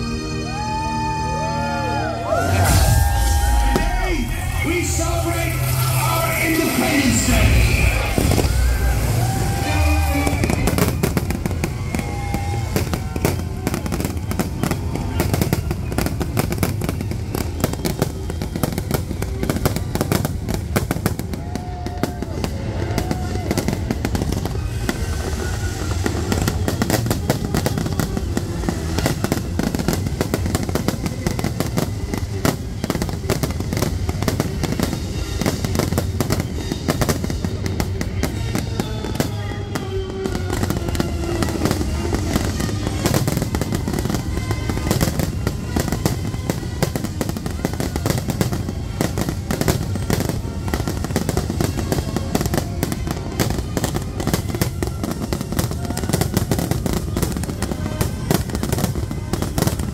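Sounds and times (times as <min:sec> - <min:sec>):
music playing: 0:00.0 - 0:59.9
fireworks bangs: 0:02.2 - 0:59.9.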